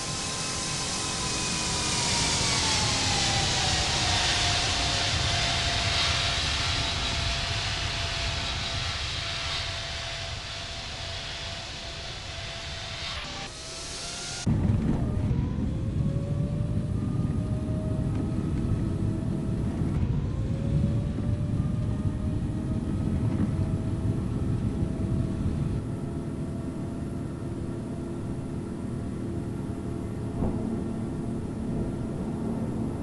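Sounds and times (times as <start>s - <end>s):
jet engines at takeoff: 0.0s - 33.0s.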